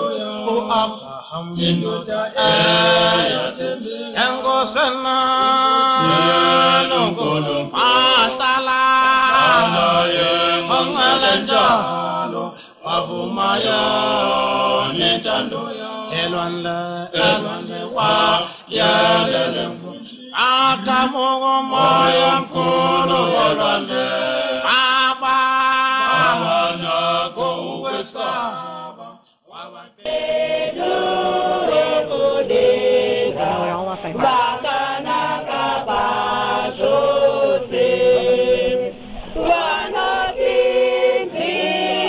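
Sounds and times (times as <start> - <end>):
a cappella group singing: 0.0 - 42.0.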